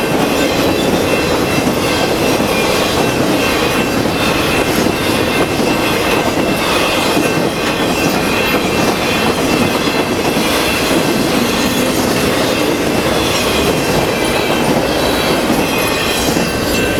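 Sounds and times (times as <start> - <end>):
steel wheels on rail: 0.0 - 16.9.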